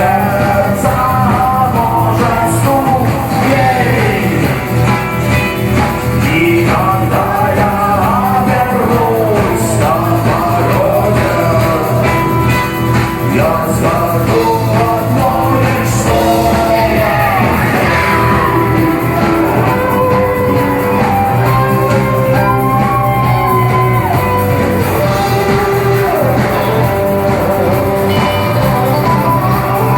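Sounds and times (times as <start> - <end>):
rock song with singing: 0.0 - 29.9.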